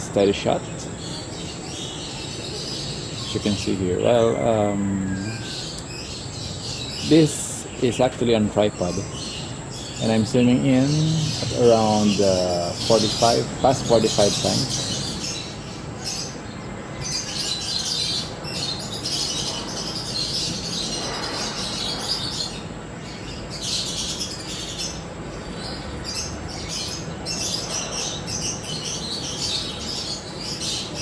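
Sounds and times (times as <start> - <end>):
birds chirping: 0.0 - 31.0
outdoor background noise: 0.0 - 31.0.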